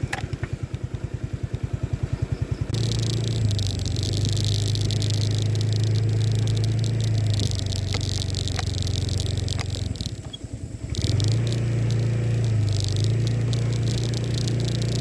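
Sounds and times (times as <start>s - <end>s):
motorcycle engine running: 0.0s - 15.0s
rattling hiss: 2.7s - 15.0s.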